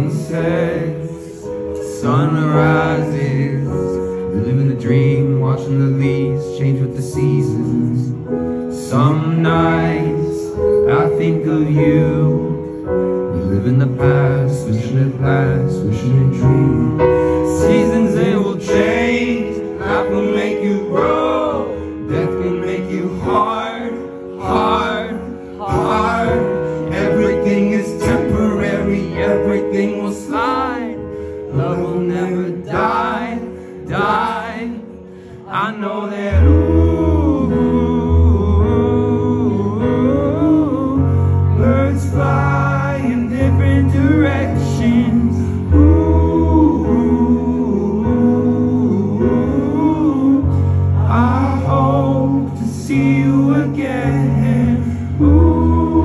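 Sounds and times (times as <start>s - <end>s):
man singing into microphone: 0.0s - 56.0s.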